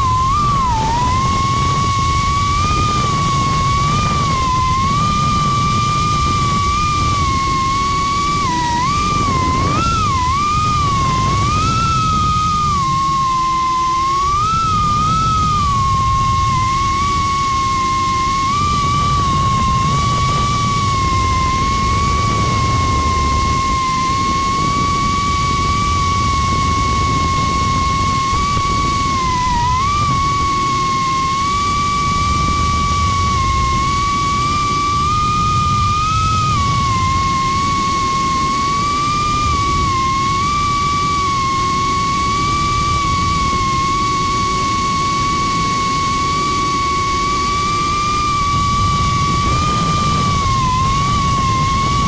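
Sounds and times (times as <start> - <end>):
drone propellers whining: 0.0 - 52.0
low noisy rumble: 0.0 - 52.0.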